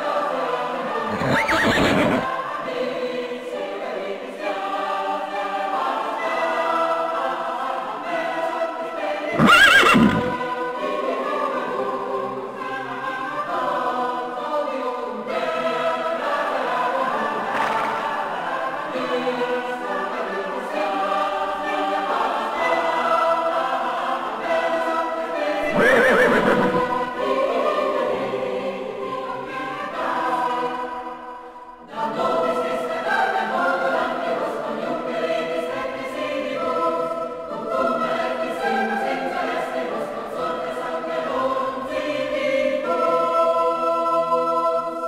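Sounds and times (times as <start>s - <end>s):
choir singing chords: 0.0s - 45.0s.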